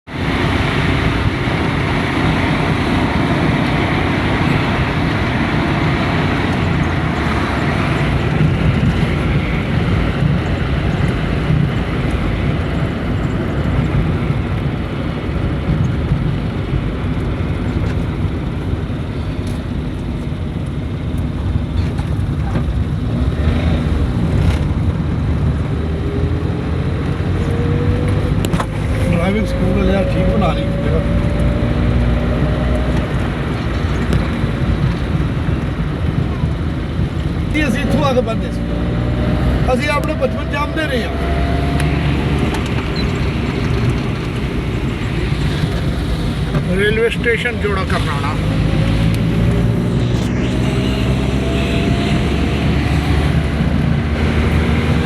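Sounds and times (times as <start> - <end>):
vehicle engine and wind rumble: 0.0 - 55.0.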